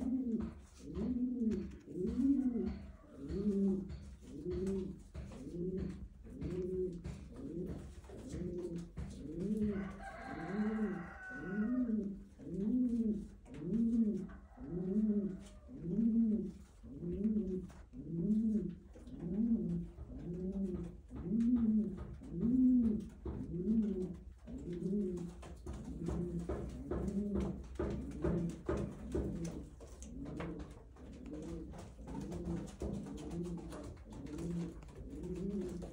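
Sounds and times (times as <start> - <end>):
pigeons cooing: 0.0 - 35.9.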